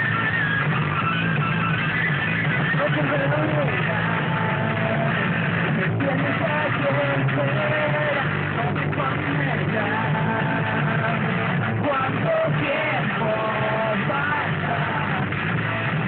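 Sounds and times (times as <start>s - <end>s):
drums: 0.0s - 16.0s
electric guitar: 0.0s - 16.0s
person singing: 0.0s - 16.0s.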